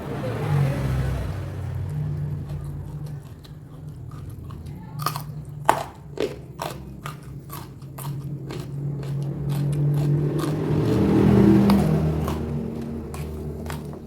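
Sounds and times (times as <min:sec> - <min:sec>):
steady low hum: 0:00.0 - 0:14.0
chewing and crunching food: 0:01.7 - 0:14.0.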